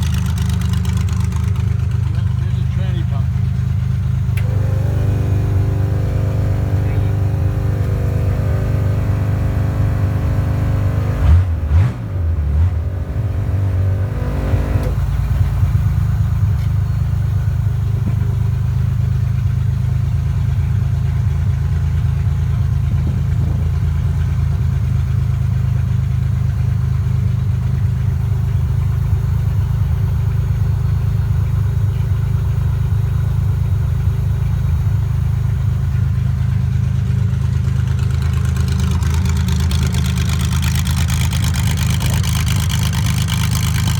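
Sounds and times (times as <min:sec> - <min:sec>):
race engine idling: 0:00.0 - 0:11.6, 0:14.8 - 0:43.9.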